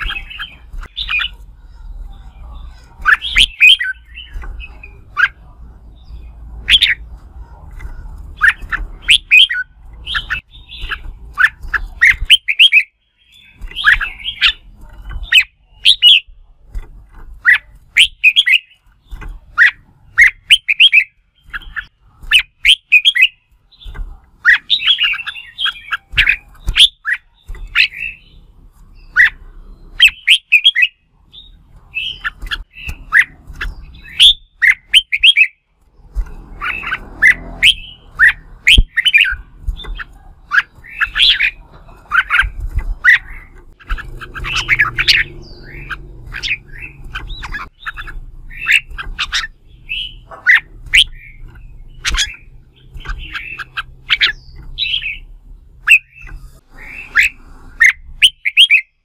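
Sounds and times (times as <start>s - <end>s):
bird whistling song: 0.0s - 7.1s, 7.8s - 16.4s, 17.4s - 35.7s, 36.3s - 59.0s.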